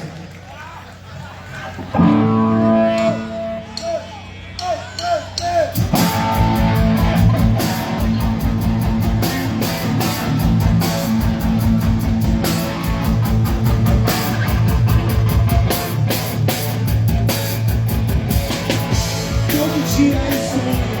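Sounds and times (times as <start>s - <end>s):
live rock band playing: 1.8s - 4.0s, 5.4s - 21.0s.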